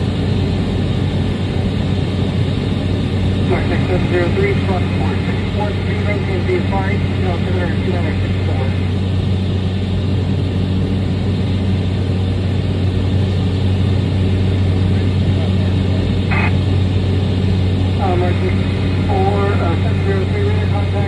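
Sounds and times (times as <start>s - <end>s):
turboprop engine drone: 0.0s - 21.0s.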